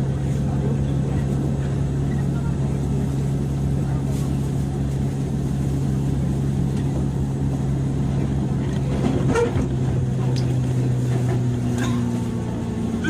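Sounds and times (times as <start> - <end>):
electric train interior hum: 0.0 - 13.0.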